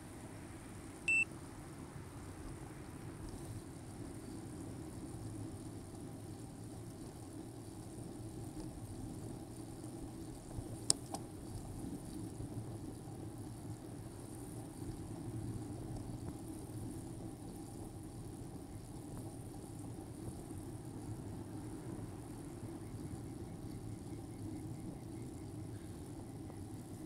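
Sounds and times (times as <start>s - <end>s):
bicycle tyre and road noise: 0.0s - 27.0s.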